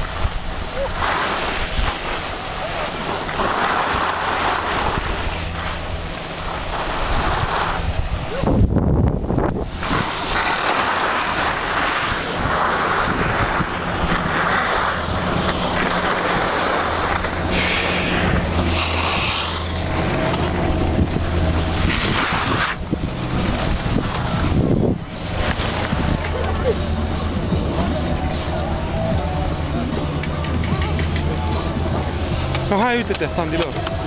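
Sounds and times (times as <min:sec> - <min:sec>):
skis sliding over packed snow: 0:00.0 - 0:08.6, 0:09.5 - 0:34.0
wind buffeting microphone: 0:01.6 - 0:30.7.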